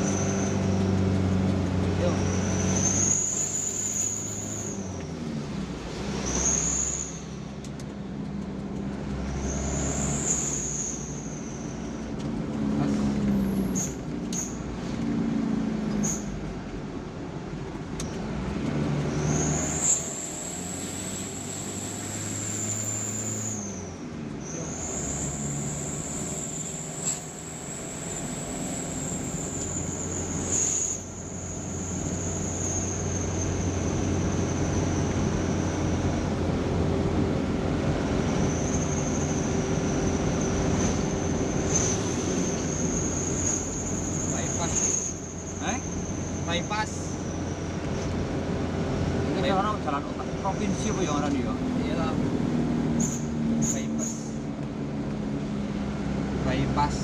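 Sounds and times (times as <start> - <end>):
vehicle engine driving: 0.0 - 57.0.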